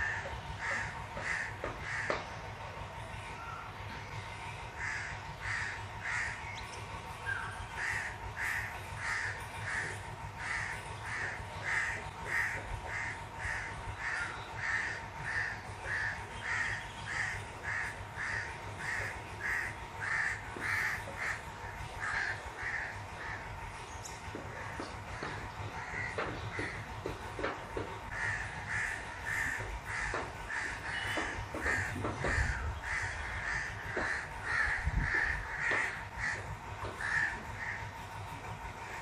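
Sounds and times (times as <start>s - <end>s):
bird calling: 3.2s - 39.0s.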